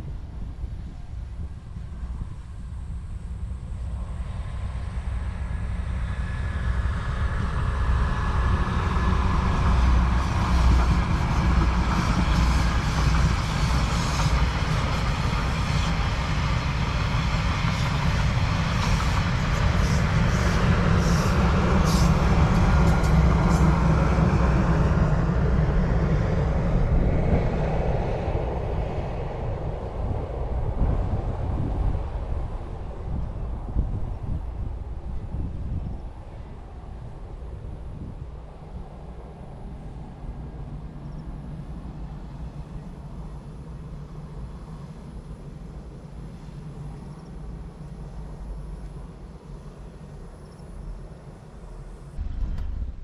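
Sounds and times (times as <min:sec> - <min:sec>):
diesel train passing: 0:00.0 - 0:53.0.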